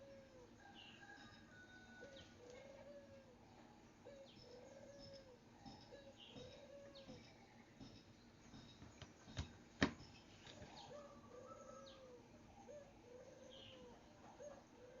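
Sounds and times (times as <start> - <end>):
dove cooing: 0.0 - 7.5, 10.5 - 15.0
small birds chirping: 2.0 - 15.0.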